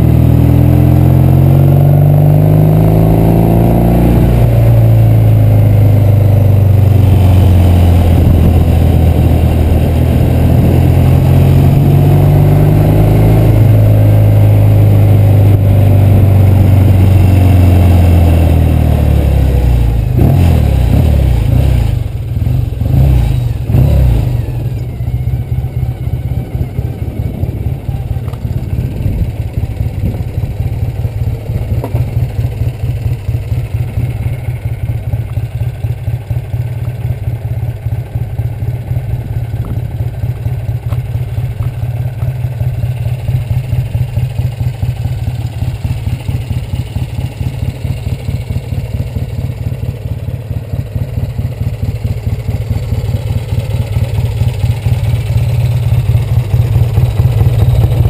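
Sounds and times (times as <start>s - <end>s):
motorcycle engine idling: 4.0s - 58.0s.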